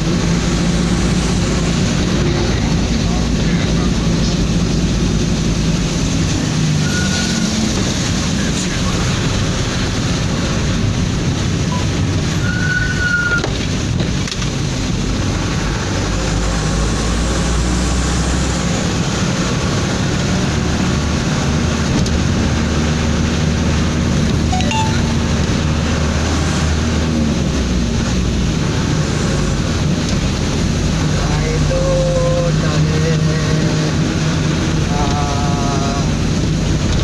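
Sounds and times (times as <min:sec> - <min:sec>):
truck engine drone: 0:00.0 - 0:12.6, 0:13.6 - 0:37.0.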